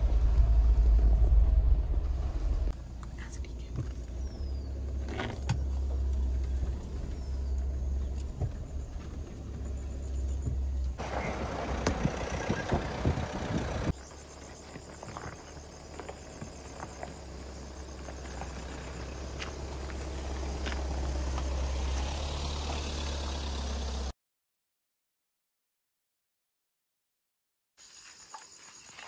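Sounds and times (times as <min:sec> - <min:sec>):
rushing tyre noise with grit ticks: 0:00.0 - 0:24.1
engine and road rumble: 0:00.0 - 0:24.2.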